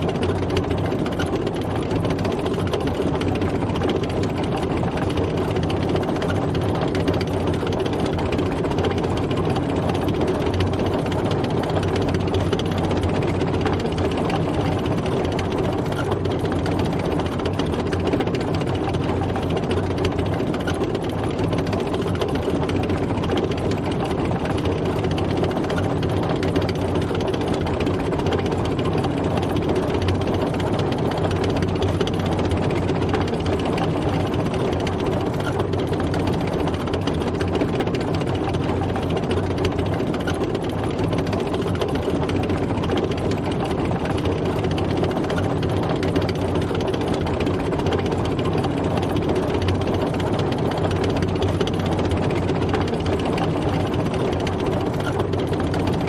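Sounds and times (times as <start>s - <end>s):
tank engine running: 0.0s - 56.0s.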